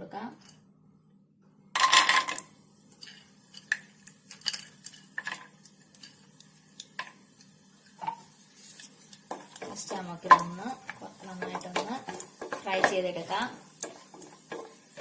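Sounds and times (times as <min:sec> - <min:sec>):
nuts sizzling in hot ghee: 0:01.9 - 0:15.0
spoon scraping a pan: 0:02.0 - 0:15.0.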